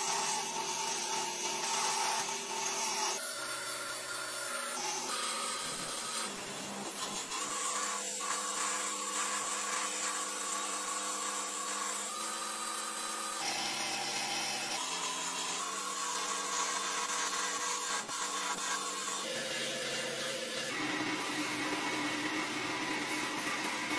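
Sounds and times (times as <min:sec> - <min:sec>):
metal lathe cutting: 0:00.0 - 0:23.9.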